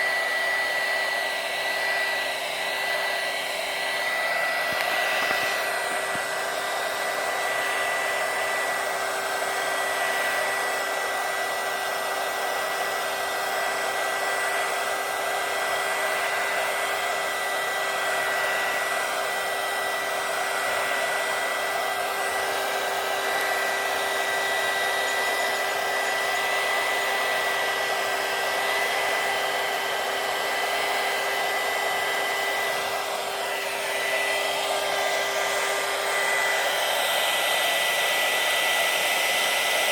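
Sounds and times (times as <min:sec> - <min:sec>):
heat gun blowing: 0:00.0 - 0:39.9.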